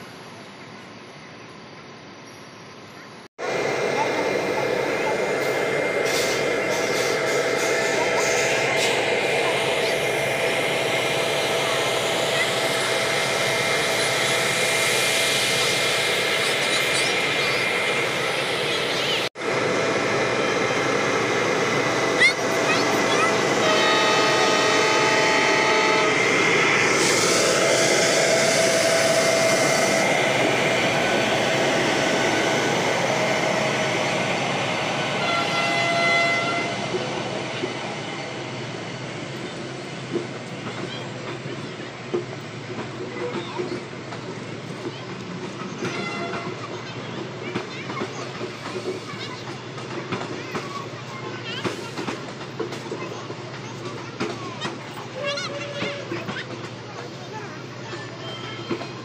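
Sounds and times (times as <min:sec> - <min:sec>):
electric locomotive hiss and whine: 0:00.0 - 0:59.0
passenger coaches rolling by: 0:00.0 - 0:59.0
train rushing noise: 0:02.8 - 0:59.0.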